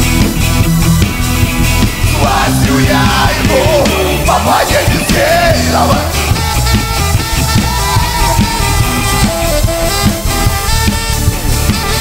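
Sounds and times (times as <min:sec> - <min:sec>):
bass guitar: 0:00.0 - 0:12.0
drum kit: 0:00.0 - 0:12.0
electric guitar: 0:00.0 - 0:12.0
horn line playing melody: 0:02.0 - 0:12.0.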